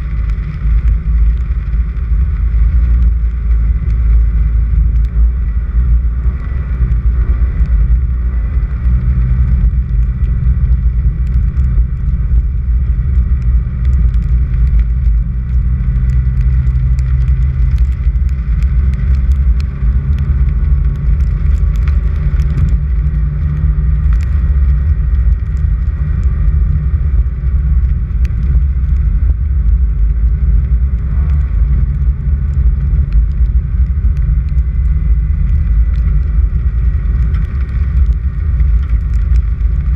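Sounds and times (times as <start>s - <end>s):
light ticks: 0.0s - 39.9s
vehicle driving on gravel road: 0.0s - 39.9s.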